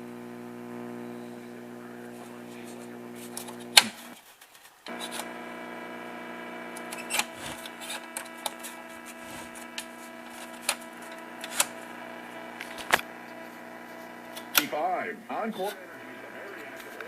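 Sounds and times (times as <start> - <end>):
radio buzzing hum: 0.0 - 4.2, 4.9 - 17.0
static crackles: 0.0 - 17.0.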